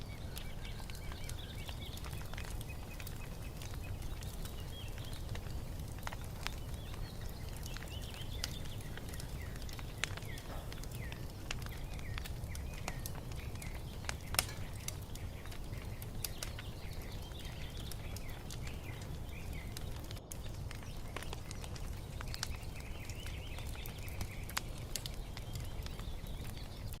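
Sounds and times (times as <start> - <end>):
small birds chirping: 0.0 - 27.0
wood fire crackling and popping: 0.0 - 27.0.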